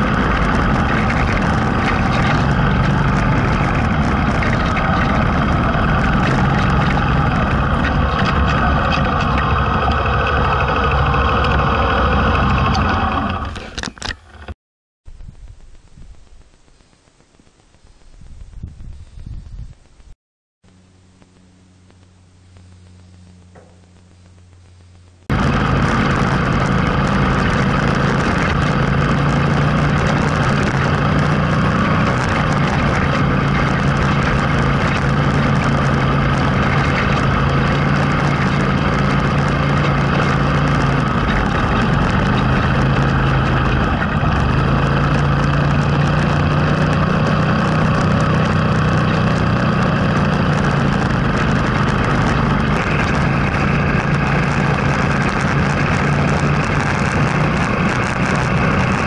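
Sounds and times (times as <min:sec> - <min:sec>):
vehicle engine driving on gravel: 0:00.0 - 0:14.6, 0:25.2 - 0:59.0.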